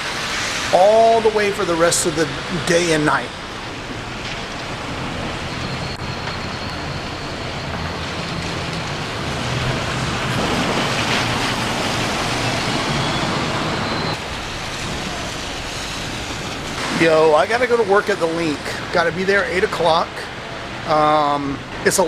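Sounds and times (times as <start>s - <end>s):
traffic on wet road: 0.0s - 22.0s.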